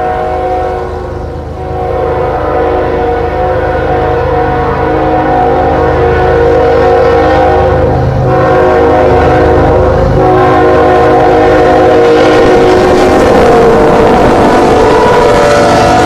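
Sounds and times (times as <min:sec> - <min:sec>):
locomotive air horn chord: 0:00.0 - 0:16.0
locomotive engine rumble: 0:00.0 - 0:16.0.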